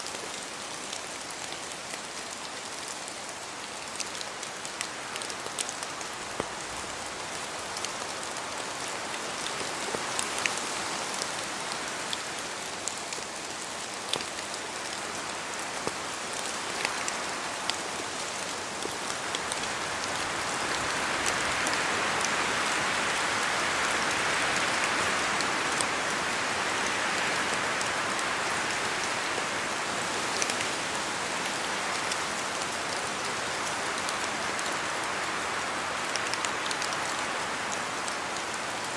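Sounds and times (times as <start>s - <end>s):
steady rain in forest: 0.0s - 38.9s
wind through wet trees: 0.0s - 38.9s.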